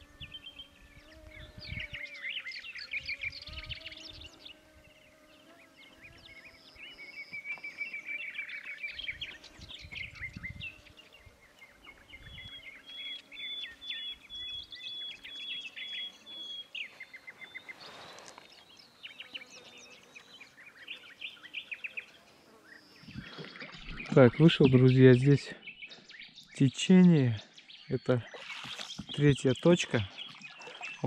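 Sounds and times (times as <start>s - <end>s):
birds chirping and trilling: 0.0s - 31.0s.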